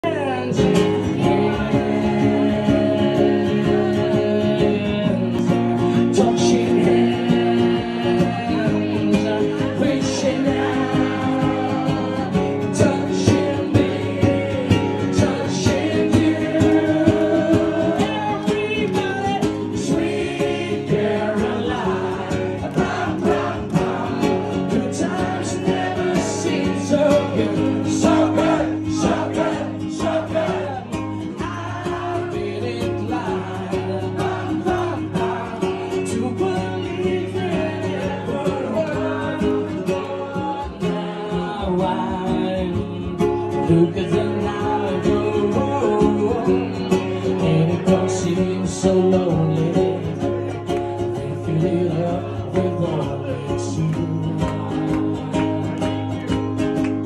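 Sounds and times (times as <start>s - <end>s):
man singing into microphone: 0.0s - 55.2s
acoustic guitar chords: 0.0s - 57.0s.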